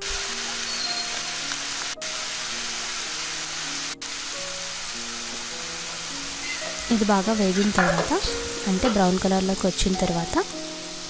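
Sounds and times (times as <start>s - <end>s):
food sizzling in oil: 0.0s - 11.0s
soft background music: 0.0s - 11.0s.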